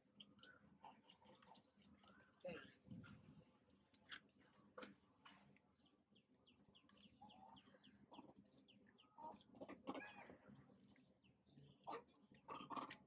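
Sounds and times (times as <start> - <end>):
small bird chirping: 0.1 - 3.8, 5.8 - 13.0.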